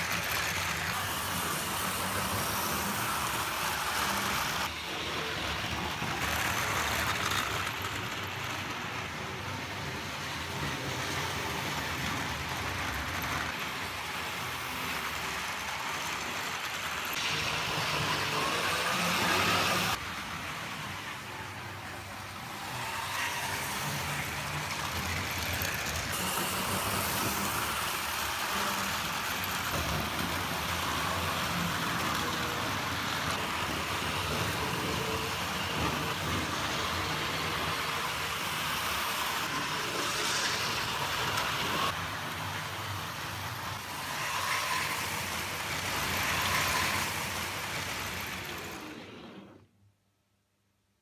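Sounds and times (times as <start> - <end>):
model train motor and wheels: 0.0 - 49.7.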